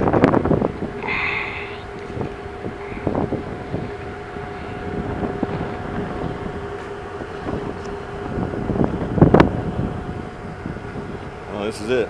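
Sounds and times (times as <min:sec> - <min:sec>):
ship machinery humming: 0:00.0 - 0:12.0
wind buffeting microphone: 0:00.0 - 0:12.0.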